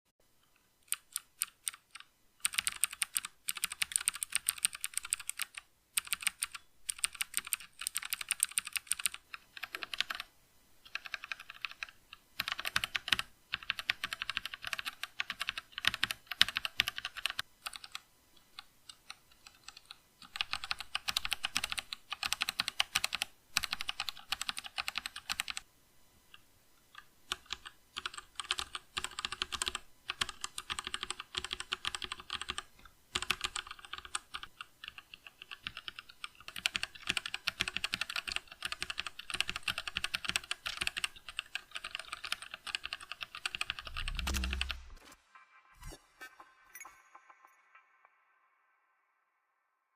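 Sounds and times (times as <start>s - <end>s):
mechanical keyboard typing: 0.5s - 25.7s, 26.9s - 45.0s.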